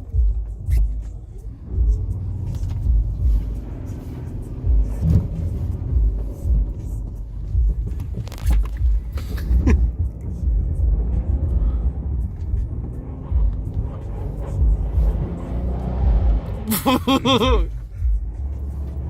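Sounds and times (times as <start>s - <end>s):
car exhaust rumbling and revving: 0.0s - 19.0s.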